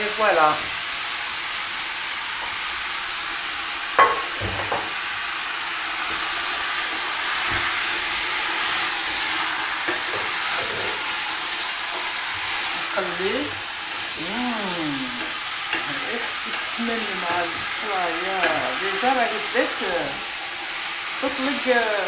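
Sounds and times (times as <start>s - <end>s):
chicken frying in a pot: 0.0s - 22.0s.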